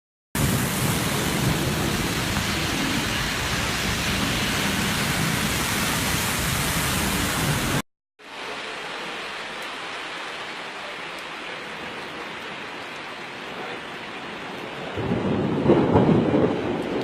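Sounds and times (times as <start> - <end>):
heavy rain pouring: 0.4 - 17.0
quieter steady rain: 0.4 - 17.0.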